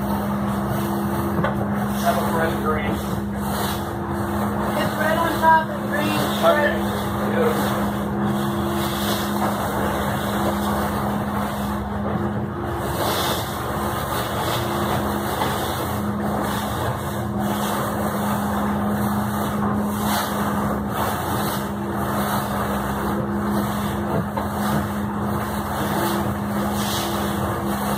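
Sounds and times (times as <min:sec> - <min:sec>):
boat engine humming: 0:00.0 - 0:27.9
water rushing: 0:00.0 - 0:27.9
wind: 0:00.0 - 0:27.9.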